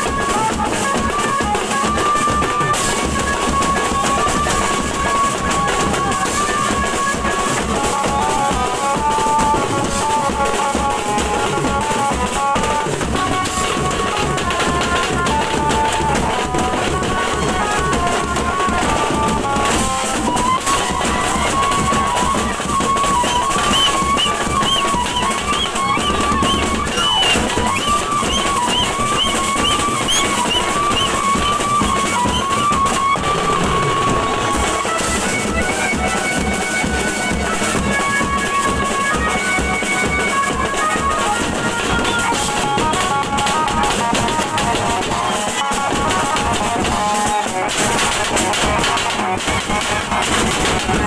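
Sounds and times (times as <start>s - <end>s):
band playing dance music: 0.0s - 51.0s
drums beating: 0.0s - 51.0s.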